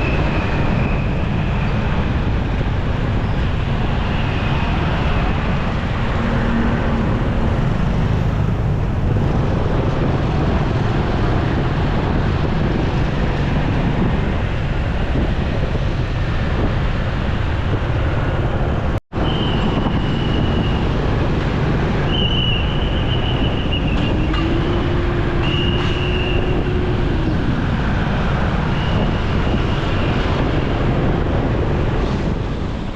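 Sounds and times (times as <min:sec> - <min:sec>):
wind and road noise: 0:00.0 - 0:32.9.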